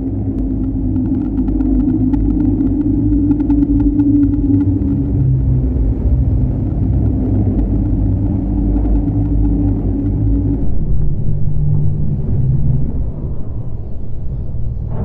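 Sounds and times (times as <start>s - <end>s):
constant hum: 0.0s - 15.0s
low steady rumble: 0.0s - 15.0s.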